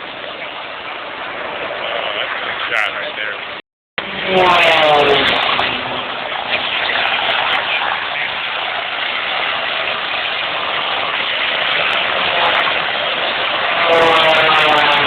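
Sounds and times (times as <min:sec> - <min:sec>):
aircraft engine roar: 0:00.0 - 0:15.0.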